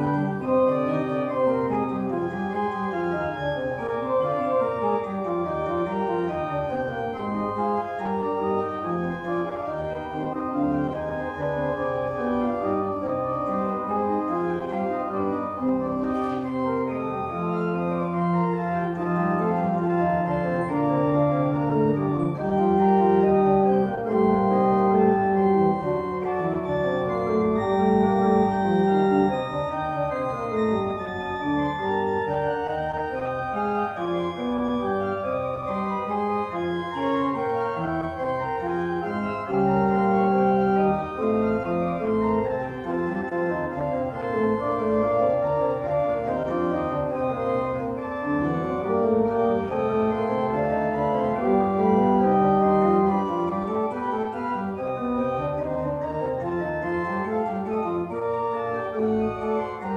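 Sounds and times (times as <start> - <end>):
organ playing slow chords: 0.0 - 59.9.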